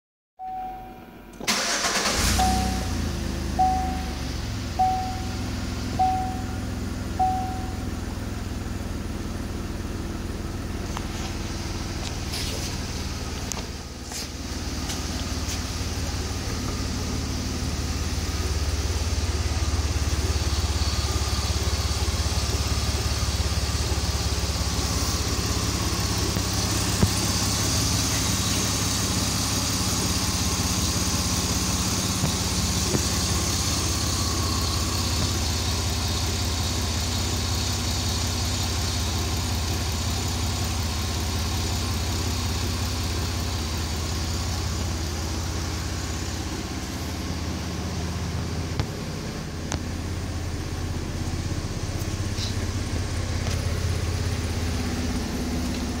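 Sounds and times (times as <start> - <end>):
car engine idling: 0.4 - 56.0.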